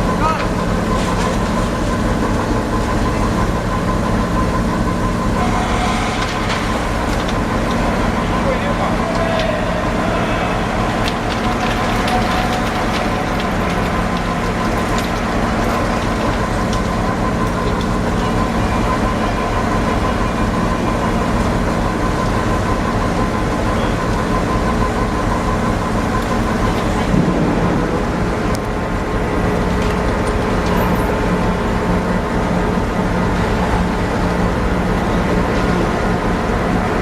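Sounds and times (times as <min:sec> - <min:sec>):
machinery and engines rumbling: 0:00.0 - 0:37.0.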